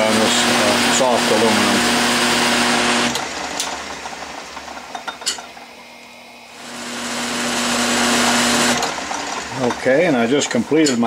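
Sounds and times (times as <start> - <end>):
metal lathe humming: 0.0 - 5.2, 6.5 - 11.0.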